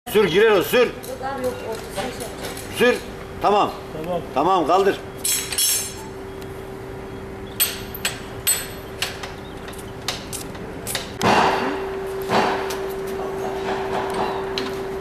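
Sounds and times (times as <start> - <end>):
steady hum: 0.1 - 15.0.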